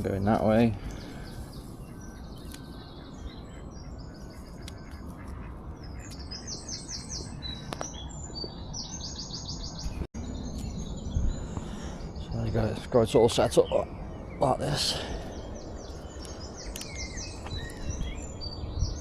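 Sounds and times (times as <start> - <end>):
songbird trilling: 0.2 - 11.4, 12.1 - 19.0.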